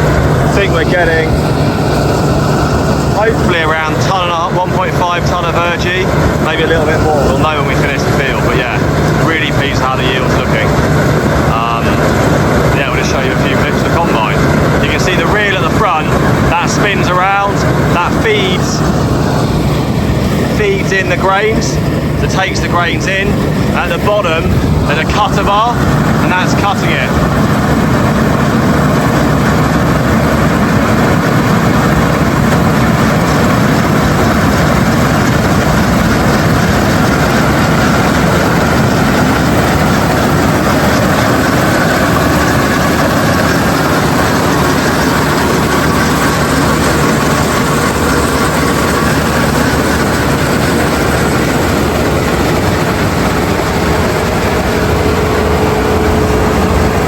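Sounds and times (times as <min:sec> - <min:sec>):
combine harvester running: 0:00.0 - 0:57.0
faint held whine: 0:00.0 - 0:57.0.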